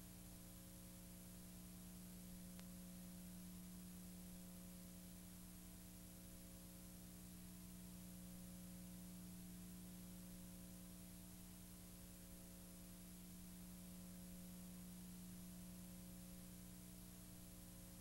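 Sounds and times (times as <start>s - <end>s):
low hum with faint hiss: 0.0s - 18.0s.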